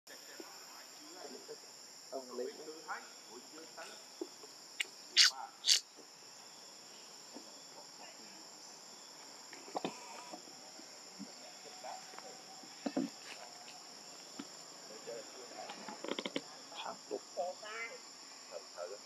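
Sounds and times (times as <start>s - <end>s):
insect chorus: 0.1s - 19.0s.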